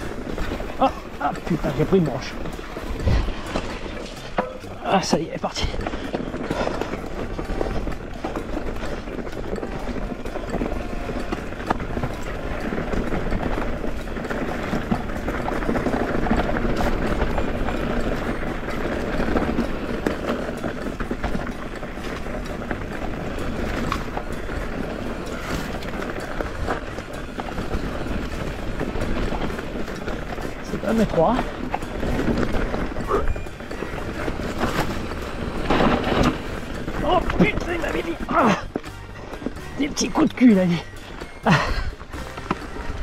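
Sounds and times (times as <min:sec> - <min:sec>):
bike rattling: 0:00.0 - 0:43.0
tyres crunching on stones: 0:00.0 - 0:43.0.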